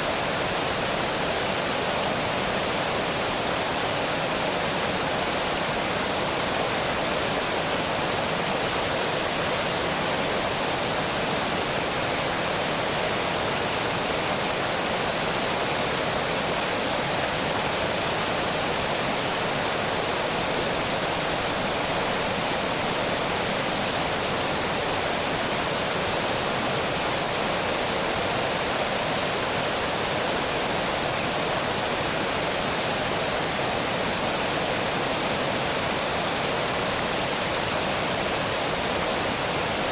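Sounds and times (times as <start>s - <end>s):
water rushing over a dam: 0.0s - 39.9s.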